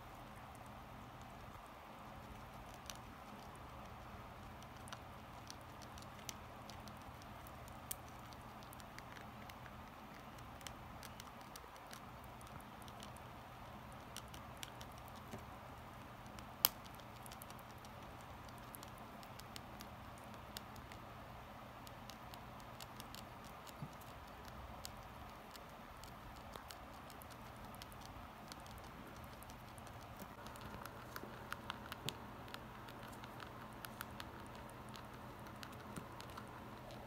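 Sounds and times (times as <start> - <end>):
guinea pig chewing: 0.0 - 37.0
low room hum: 0.0 - 37.0.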